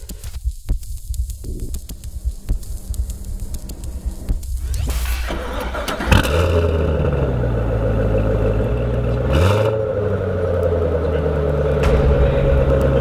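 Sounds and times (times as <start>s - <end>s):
car engine idling and revving: 2.2s - 13.0s.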